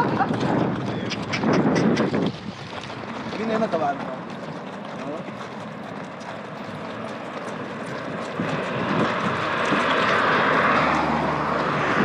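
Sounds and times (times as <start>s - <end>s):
hooves clip-clopping on dirt: 0.0s - 12.0s
vehicle passing: 0.0s - 12.0s.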